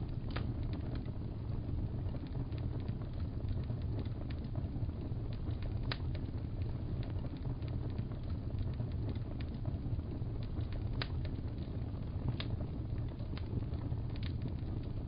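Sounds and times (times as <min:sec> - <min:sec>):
fire crackling in a fireplace: 0:00.0 - 0:15.0
fire popping: 0:00.0 - 0:15.0.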